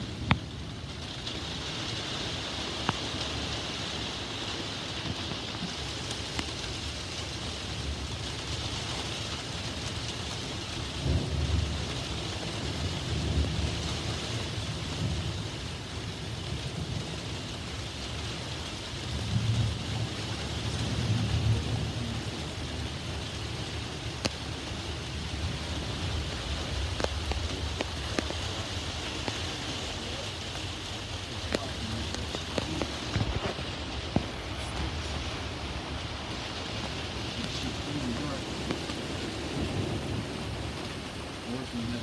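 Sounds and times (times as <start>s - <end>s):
heavy rain: 0.0s - 42.0s
thunder rumbling: 0.0s - 42.0s.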